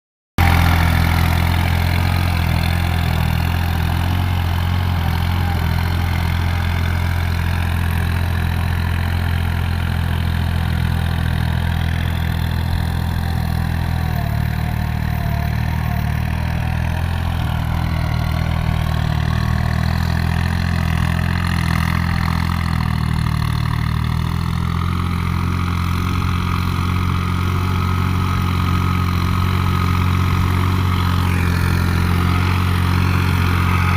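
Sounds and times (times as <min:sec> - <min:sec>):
tractor diesel engine running: 0:00.4 - 0:33.9.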